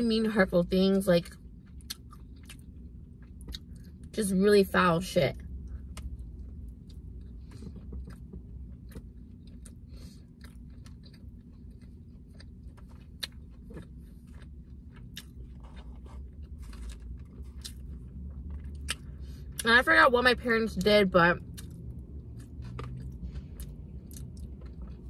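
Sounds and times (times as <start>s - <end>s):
steady low hum: 0.0s - 25.0s
person chewing food: 1.3s - 4.1s, 5.4s - 19.6s, 21.4s - 25.0s.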